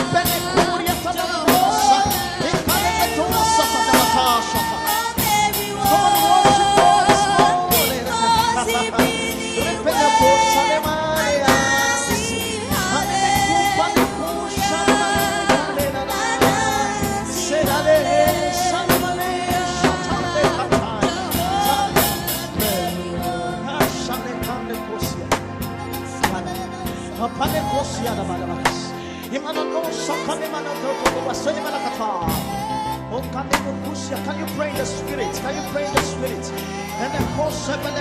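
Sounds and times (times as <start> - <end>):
drum kit beat: 0.0 - 38.0
gospel band playing: 0.0 - 38.0
person singing: 0.0 - 38.0.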